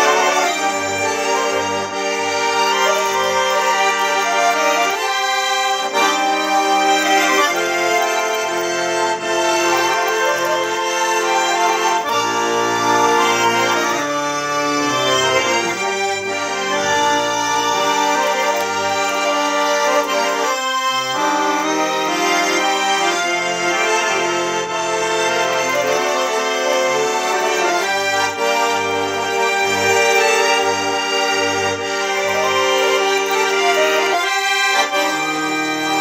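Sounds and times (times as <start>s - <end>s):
button accordion playing folk tune: 0.0s - 36.0s.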